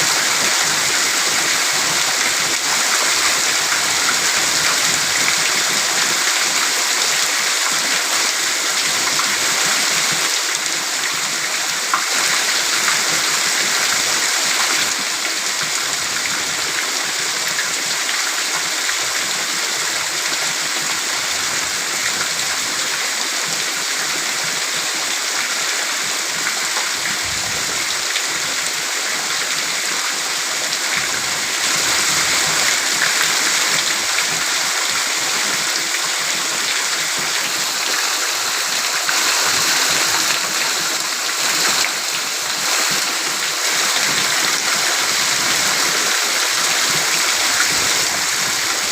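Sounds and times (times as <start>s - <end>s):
heavy rain downpour: 0.0s - 48.9s.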